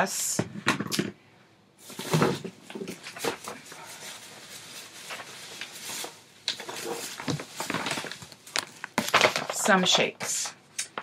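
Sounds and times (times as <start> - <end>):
packets rustling and crinkling: 1.8 - 11.0.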